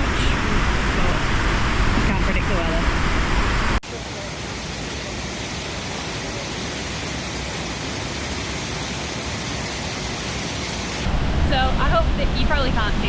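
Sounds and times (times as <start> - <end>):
waterfall roar: 0.0 - 13.0.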